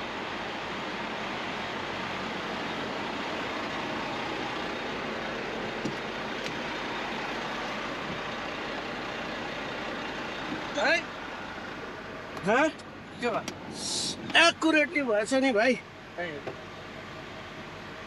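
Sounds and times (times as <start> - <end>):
semi-truck running: 0.0 - 18.0.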